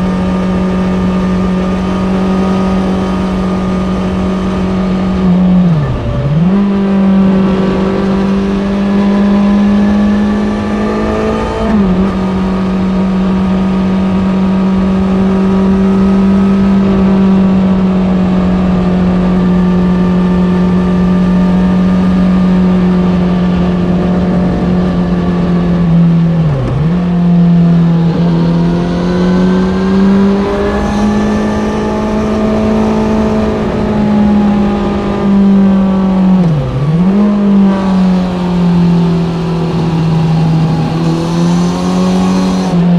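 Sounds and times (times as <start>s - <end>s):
motorcycle engine revving under load: 0.0s - 42.9s.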